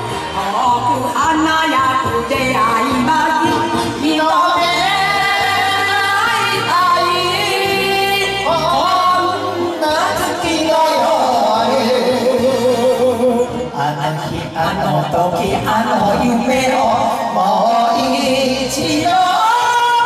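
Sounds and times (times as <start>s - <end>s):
karaoke backing track: 0.0s - 20.0s
man and woman singing karaoke: 0.0s - 20.0s.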